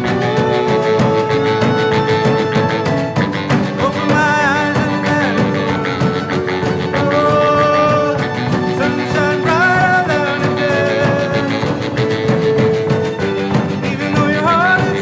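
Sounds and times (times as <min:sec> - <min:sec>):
sliding melody line: 0:00.0 - 0:15.0
strummed acoustic guitar: 0:00.0 - 0:15.0.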